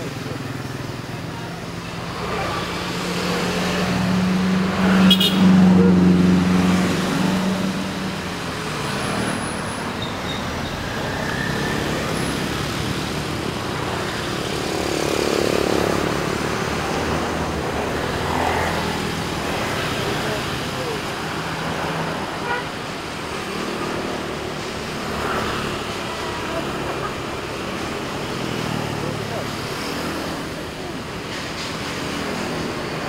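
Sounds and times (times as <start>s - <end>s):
vehicles driving past: 0.0s - 33.0s.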